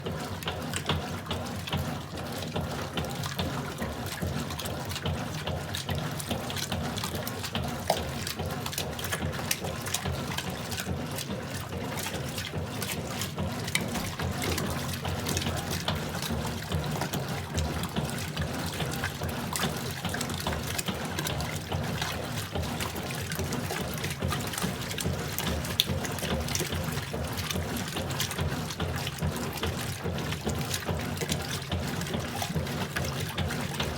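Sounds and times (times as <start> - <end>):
washing machine hum: 0.0 - 33.9
water splashing and trickling: 0.0 - 33.9.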